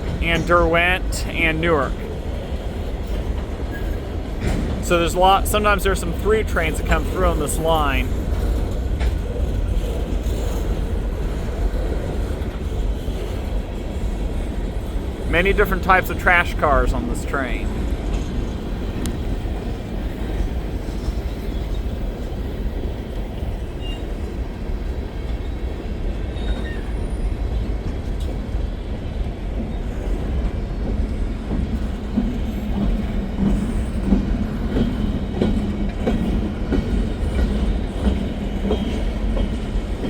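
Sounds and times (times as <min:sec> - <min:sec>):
freight train rolling past: 0:00.0 - 0:40.0.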